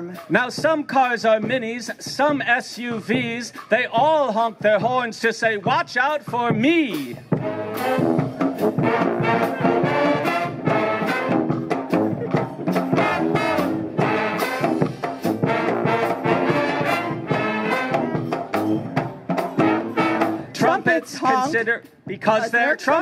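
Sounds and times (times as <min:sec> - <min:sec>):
bass drum and cymbal beat: 0:00.0 - 0:23.0
brass band playing upbeat tune: 0:00.0 - 0:23.0.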